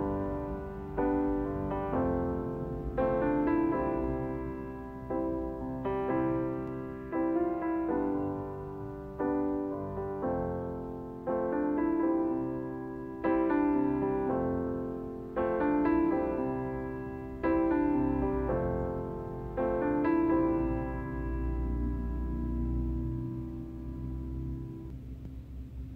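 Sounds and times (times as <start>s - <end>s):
gentle piano chords: 0.0s - 25.9s.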